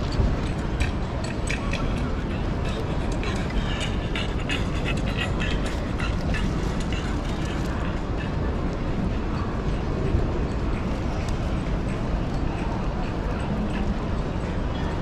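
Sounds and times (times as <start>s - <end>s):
crowded hall rumble: 0.0s - 15.0s.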